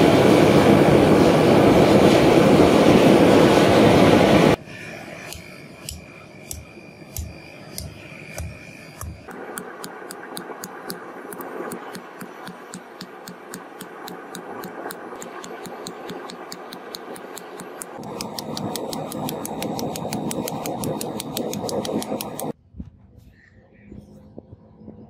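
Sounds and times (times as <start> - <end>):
steady background rush: 0.0 - 22.6.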